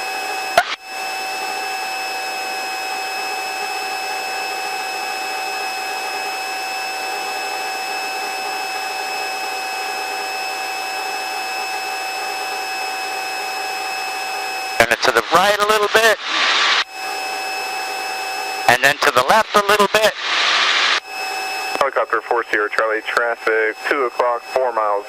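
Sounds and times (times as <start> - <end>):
helicopter cabin noise: 3.5 - 25.0.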